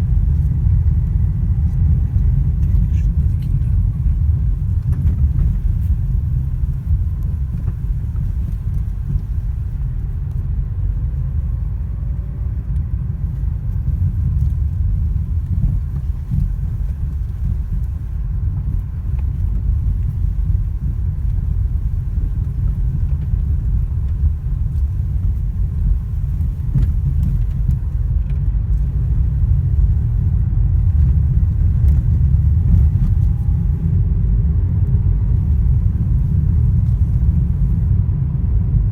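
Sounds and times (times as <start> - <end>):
road and tyre rumble: 0.0 - 38.9.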